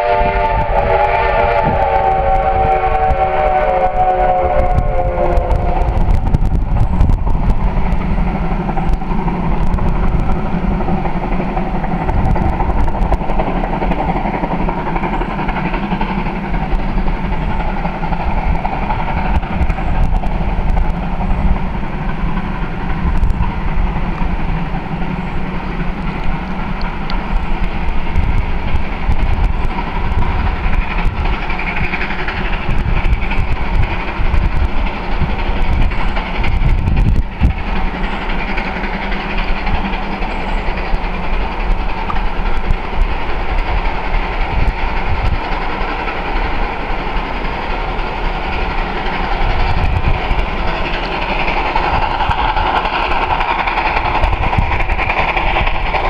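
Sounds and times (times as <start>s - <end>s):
steam locomotive climbing: 0.0s - 56.0s.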